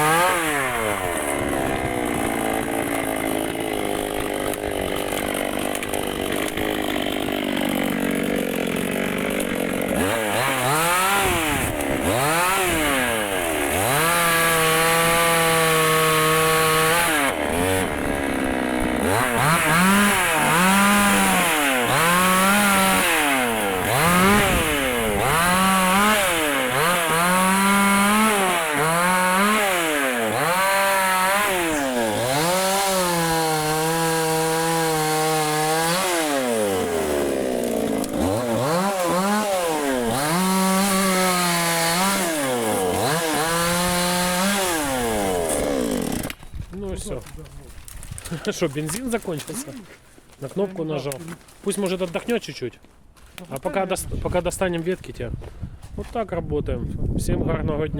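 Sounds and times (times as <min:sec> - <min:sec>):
chainsaw cutting wood: 0:00.0 - 0:52.4.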